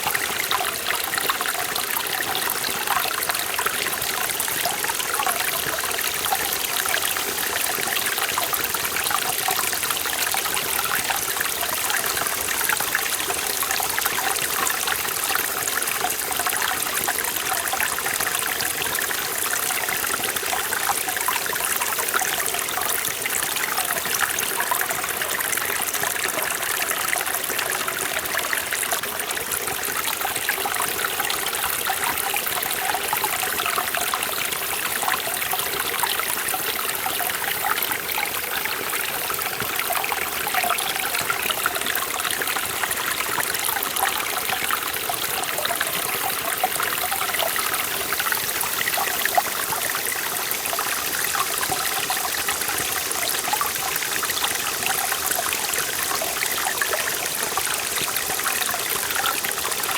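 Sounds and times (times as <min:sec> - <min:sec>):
water babbling over rocks: 0:00.0 - 0:59.9.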